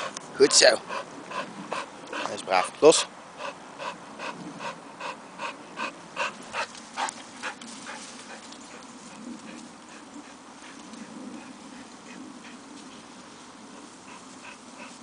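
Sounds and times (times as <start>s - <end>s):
dog panting: 0.0s - 12.7s, 13.7s - 15.0s.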